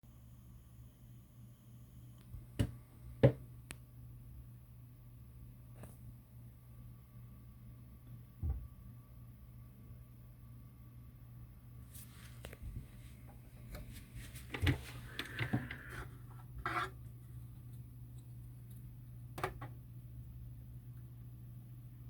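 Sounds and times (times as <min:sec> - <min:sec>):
steady low hum: 0:00.1 - 0:22.0.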